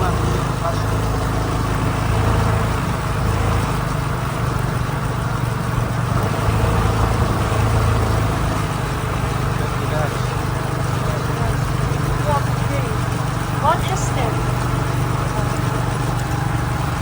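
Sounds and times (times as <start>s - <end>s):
motorcycle engine droning: 0.0s - 17.0s.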